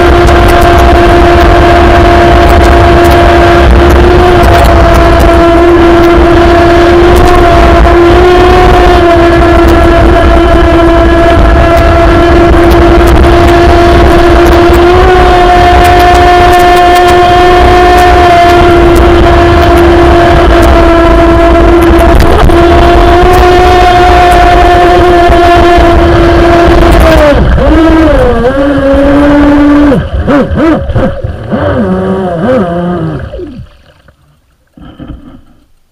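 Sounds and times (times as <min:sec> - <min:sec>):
electric motor whine: 0:00.0 - 0:33.7
water rushing and spray: 0:00.0 - 0:34.8.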